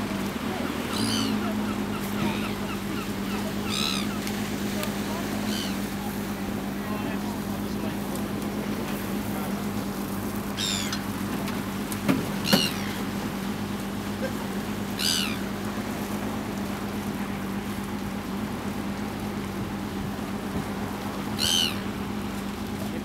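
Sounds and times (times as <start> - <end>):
gulls crying: 0.0 - 23.0
low engine hum: 0.0 - 23.0.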